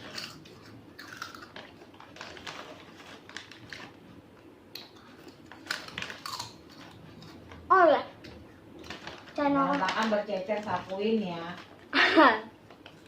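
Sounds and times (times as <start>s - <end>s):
crackers being crunched: 0.0s - 4.0s, 4.7s - 12.0s.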